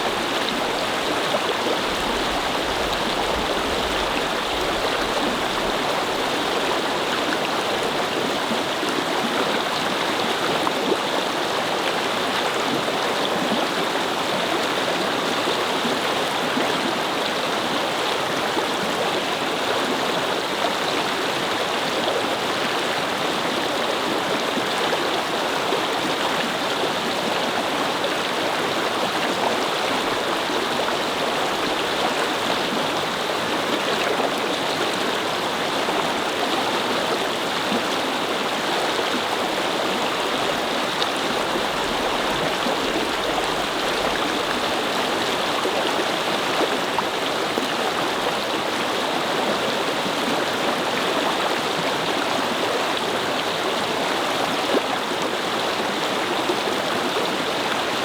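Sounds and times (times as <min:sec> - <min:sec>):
brook water rushing: 0:00.0 - 0:58.0.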